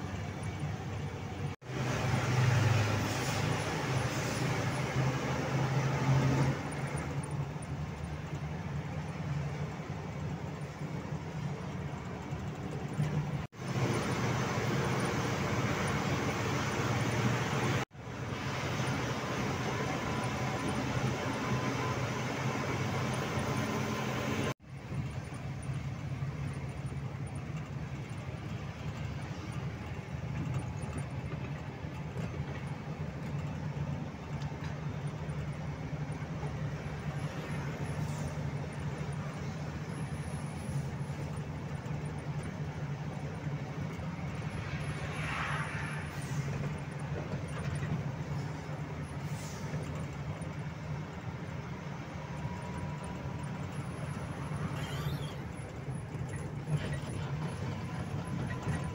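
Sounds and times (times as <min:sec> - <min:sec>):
road and tyre noise: 0:00.0 - 0:58.9
truck engine droning: 0:00.0 - 0:58.9.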